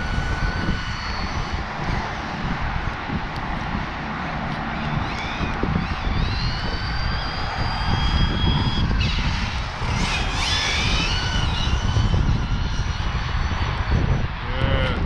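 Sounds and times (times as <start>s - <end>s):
high electric motor whine: 0.0s - 15.0s
wind rumble on microphone: 0.0s - 15.0s.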